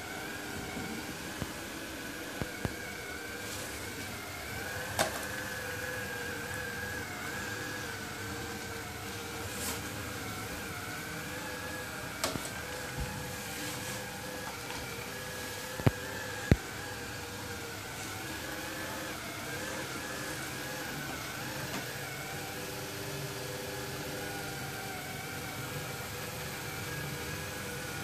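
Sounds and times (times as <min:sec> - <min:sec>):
robot vacuum motor whine: 0:00.0 - 0:28.0.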